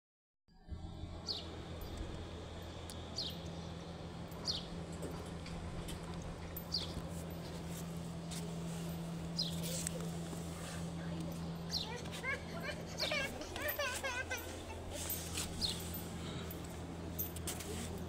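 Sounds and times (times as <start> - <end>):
steady low hum: 0.5 - 18.0.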